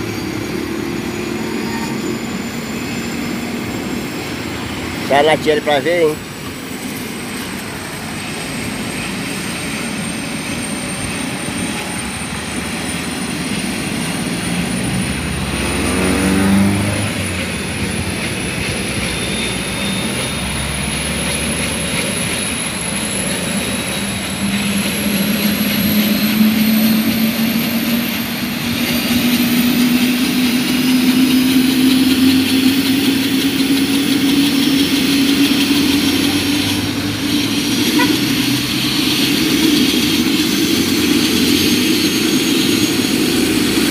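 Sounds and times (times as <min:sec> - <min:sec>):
helicopter turbine whine: 0:00.0 - 0:43.9.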